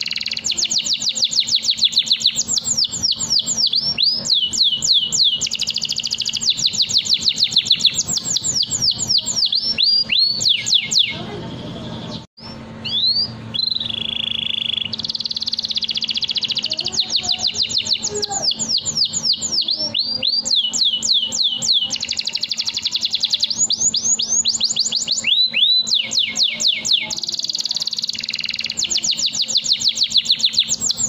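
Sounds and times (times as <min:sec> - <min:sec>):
canary singing: 0:00.0 - 0:31.0.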